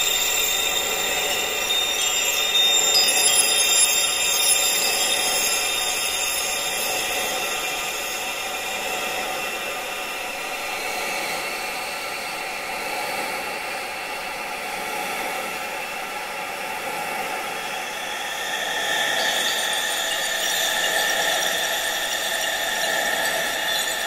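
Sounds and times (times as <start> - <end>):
faint steady high tones: 0.0 - 12.7, 15.5 - 24.0.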